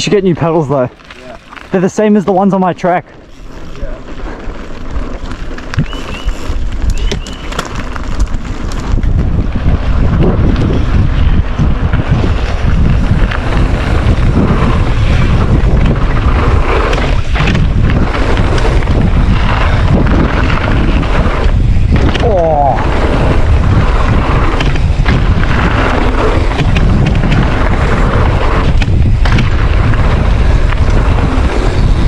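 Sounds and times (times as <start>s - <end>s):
wind buffeting microphone: 3.4s - 32.0s.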